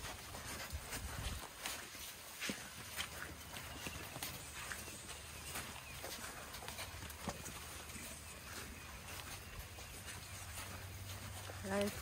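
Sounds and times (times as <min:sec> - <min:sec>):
elephant footfalls on dirt: 0:00.0 - 0:12.0.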